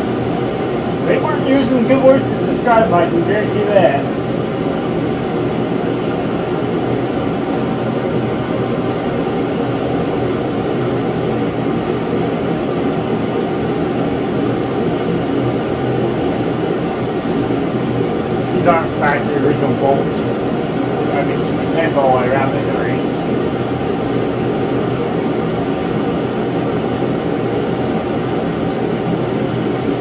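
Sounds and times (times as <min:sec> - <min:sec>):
gas heater rushing noise: 0:00.0 - 0:30.0.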